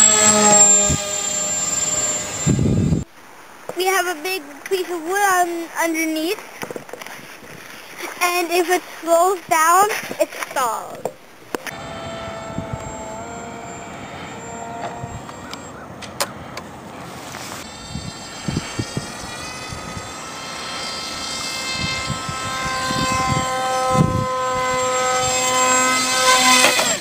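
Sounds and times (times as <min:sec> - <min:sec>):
electric motor and propeller whining: 0:00.0 - 0:03.1, 0:04.3 - 0:27.0.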